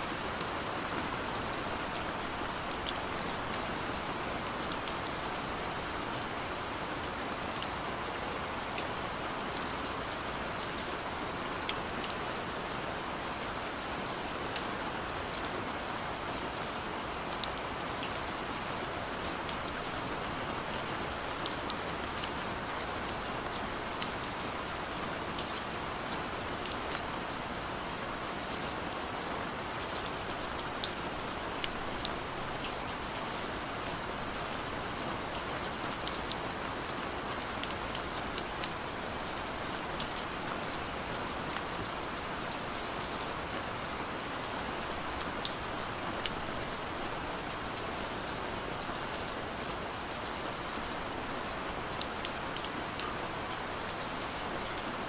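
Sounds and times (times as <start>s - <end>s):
raindrops ticking on a surface: 0.0s - 55.0s.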